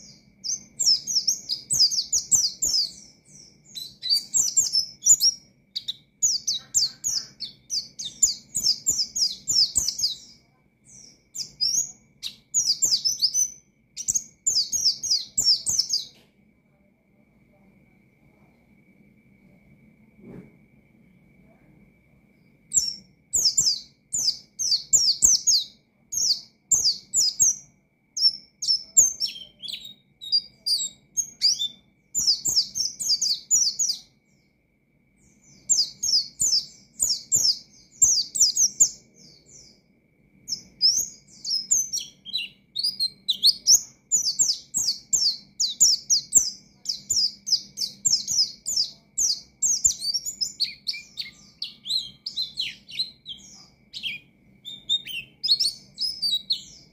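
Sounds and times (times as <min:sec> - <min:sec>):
bird singing rapid high chirps: 0:00.0 - 0:16.2, 0:22.6 - 0:34.4, 0:35.2 - 0:39.8, 0:40.5 - 0:56.9.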